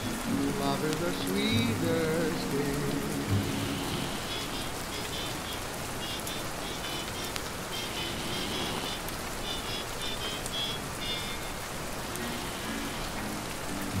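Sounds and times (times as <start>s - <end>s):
rain pattering on a window: 0.0s - 14.0s.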